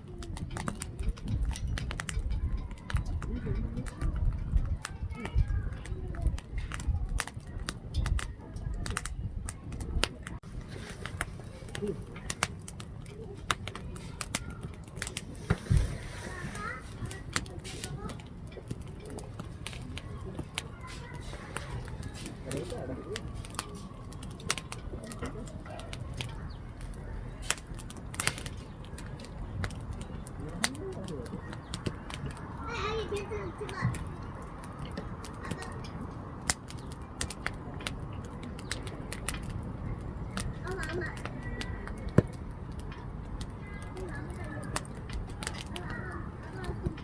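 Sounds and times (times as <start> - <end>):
firewood crackling and popping: 0.0 - 47.0.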